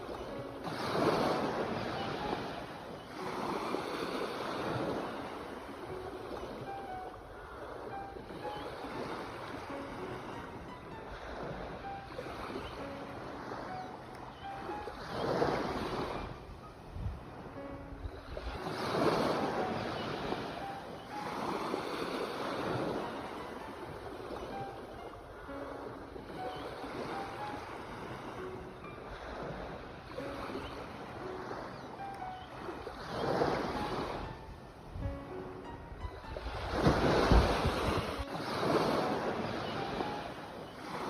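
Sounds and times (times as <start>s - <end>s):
sea waves breaking: 0.0s - 41.0s
soft relaxation music: 0.0s - 41.0s.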